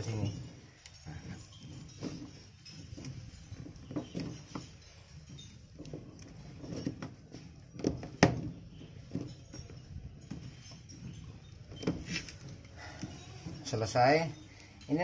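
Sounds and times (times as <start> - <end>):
plastic hose knocking and rubbing: 1.4 - 13.7.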